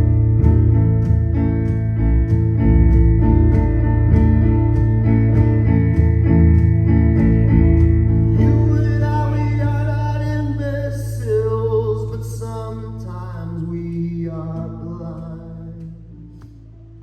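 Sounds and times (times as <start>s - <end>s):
guitar strumming: 0.0s - 17.0s.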